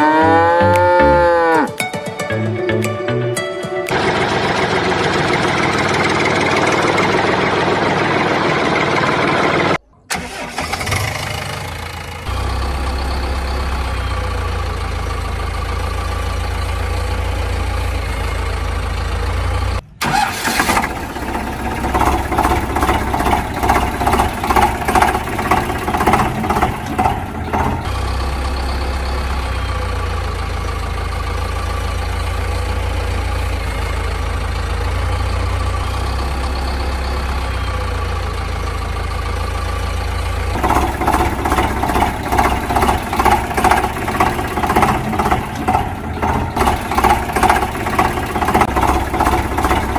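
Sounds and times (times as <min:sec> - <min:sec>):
vehicle engine humming: 0:00.0 - 0:49.9.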